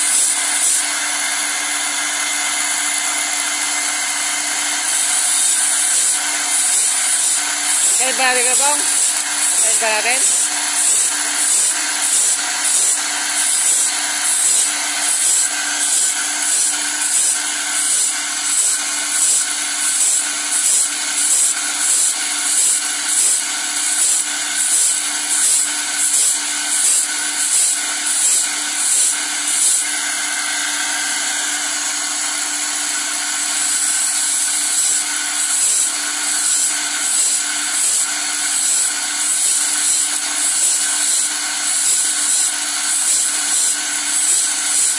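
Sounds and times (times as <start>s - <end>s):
electric motor hum: 0.0s - 44.9s
grinding wheel grinding teeth: 0.0s - 44.9s.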